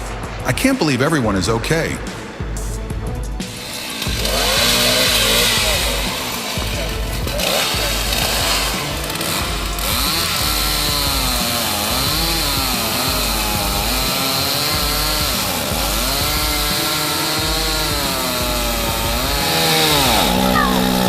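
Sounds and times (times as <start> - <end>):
chainsaw cutting wood: 3.4 - 21.0.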